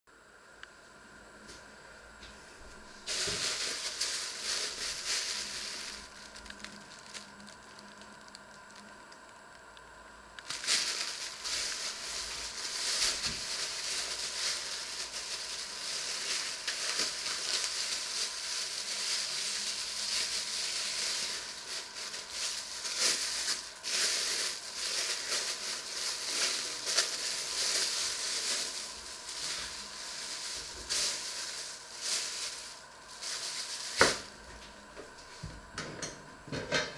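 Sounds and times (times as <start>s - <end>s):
plastic bag crinkling: 2.7s - 9.8s, 10.4s - 35.4s.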